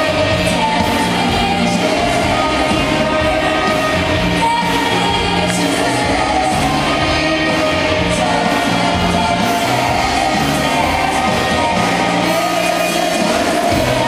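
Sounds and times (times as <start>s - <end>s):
live pop band with vocals: 0.0s - 14.0s.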